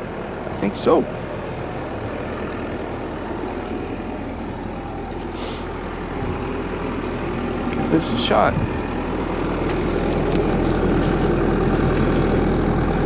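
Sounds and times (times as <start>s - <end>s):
heavy engine running: 0.0s - 13.0s.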